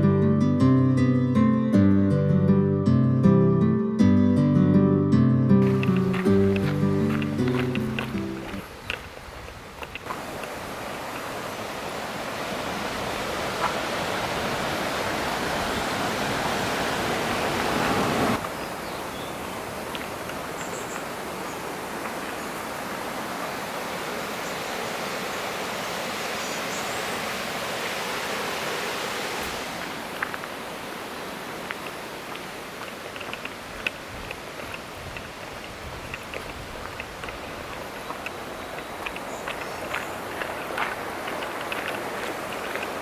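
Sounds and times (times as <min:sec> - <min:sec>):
mountain stream rushing: 0:05.6 - 0:43.0.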